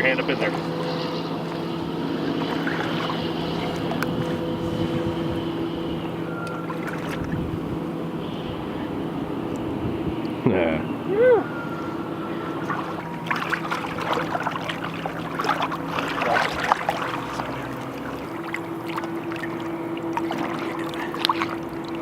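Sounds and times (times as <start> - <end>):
water splashing and trickling: 0.0 - 9.8, 12.1 - 22.0
steady low hum: 0.0 - 22.0.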